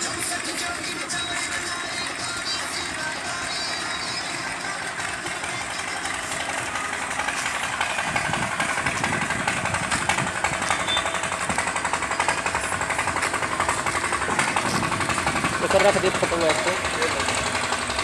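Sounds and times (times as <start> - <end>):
machine rattling: 0.0 - 18.0.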